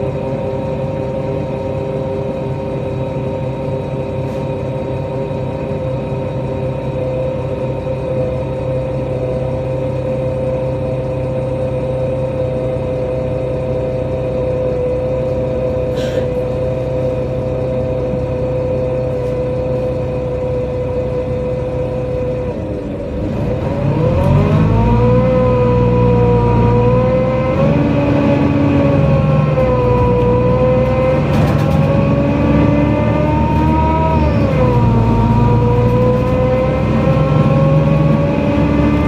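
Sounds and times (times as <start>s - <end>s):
bus engine and drivetrain whine: 0.0s - 39.0s.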